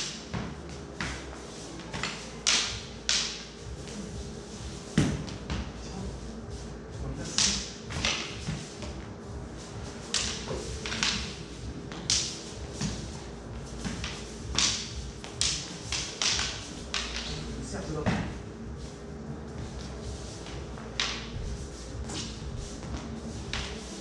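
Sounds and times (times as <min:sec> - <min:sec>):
feet stamping and sliding on floor: 0:00.0 - 0:24.0.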